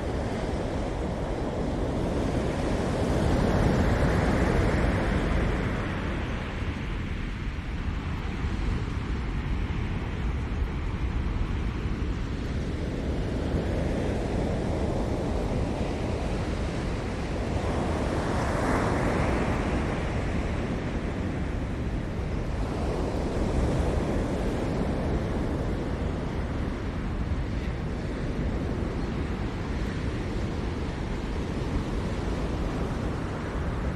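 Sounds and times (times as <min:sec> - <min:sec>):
ocean surf breaking on shore: 0:00.0 - 0:07.5, 0:11.6 - 0:33.9.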